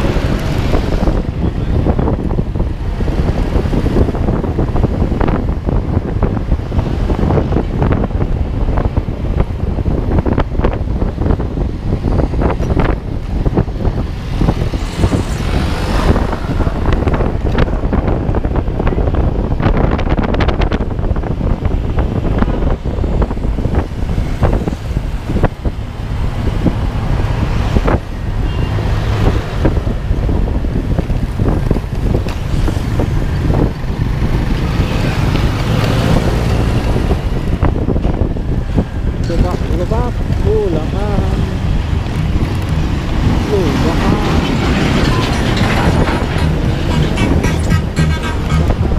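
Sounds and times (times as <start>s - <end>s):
vehicle rumble: 0.0s - 48.9s
wind buffeting microphone: 0.0s - 48.9s.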